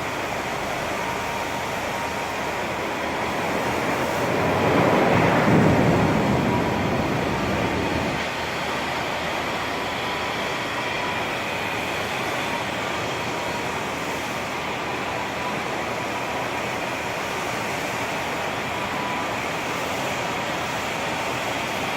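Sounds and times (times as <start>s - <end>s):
floor cleaning machine running: 0.0s - 21.9s.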